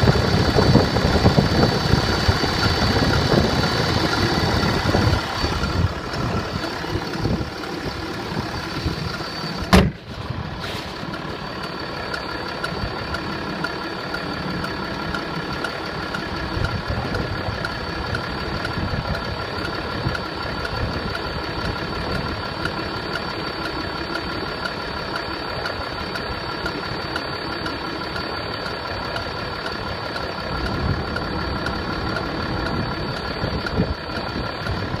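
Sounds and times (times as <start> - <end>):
engine idling: 0.0 - 35.0
engine knocking: 0.0 - 35.0.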